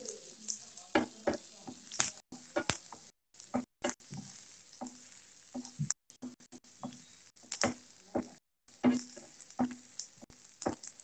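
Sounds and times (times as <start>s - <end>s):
faint sizzle: 0.0s - 11.0s
spoon knocking against pan: 0.9s - 10.0s.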